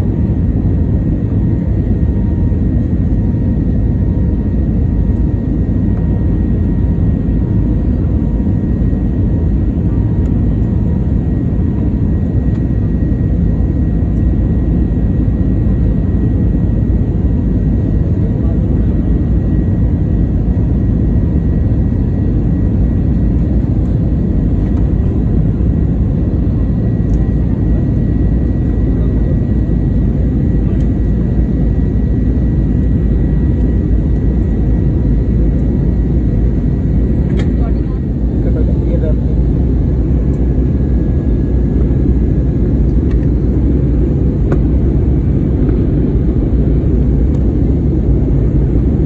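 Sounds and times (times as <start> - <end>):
jet engine rumble in cabin: 0.0 - 49.0.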